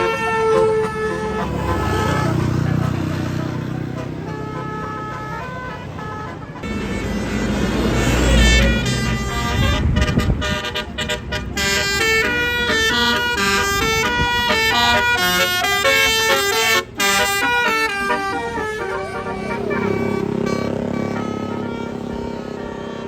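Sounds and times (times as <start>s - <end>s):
bus horn playing melody: 0.0s - 23.0s
bus passing rumble: 0.0s - 23.0s.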